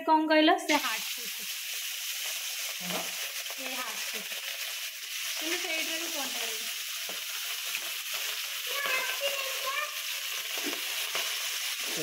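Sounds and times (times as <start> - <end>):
food sizzling in hot oil: 0.4 - 12.0.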